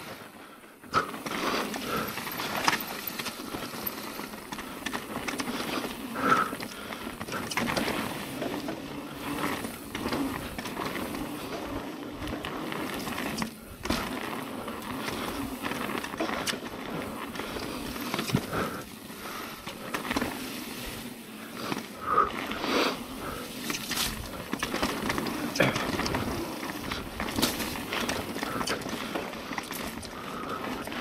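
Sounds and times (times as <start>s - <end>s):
bike tyres on dirt trail: 0.0s - 31.0s
bike knocking and rattling: 0.8s - 31.0s.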